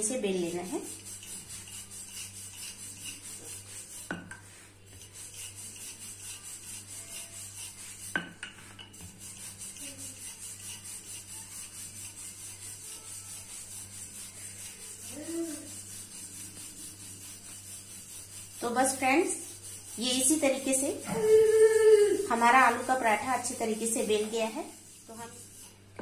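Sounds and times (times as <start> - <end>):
rolling pin rubbing on dough: 0.0 - 26.0.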